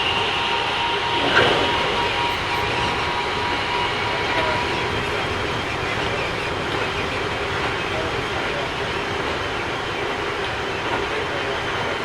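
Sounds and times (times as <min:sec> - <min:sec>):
train wheels rolling on rail: 0:00.0 - 0:12.0.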